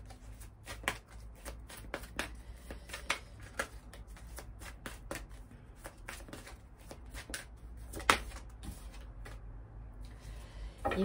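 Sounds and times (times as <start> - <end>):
cards being shuffled: 0.0 - 9.5.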